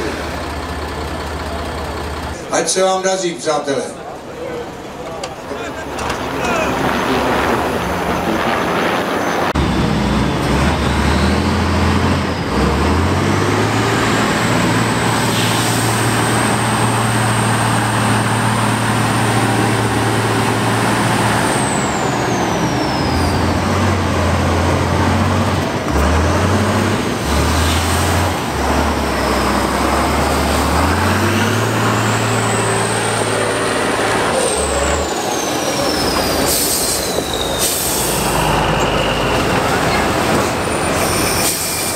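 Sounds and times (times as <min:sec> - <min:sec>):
truck engine revving hard: 0:05.7 - 0:41.9.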